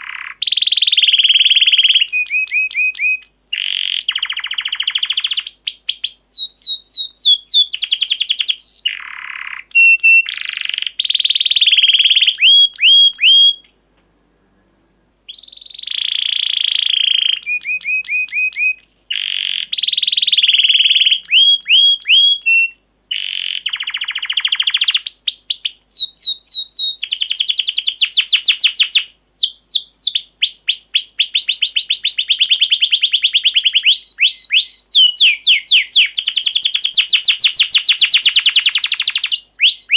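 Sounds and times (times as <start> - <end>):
canary singing trills: 0.0 - 14.0, 15.3 - 39.9.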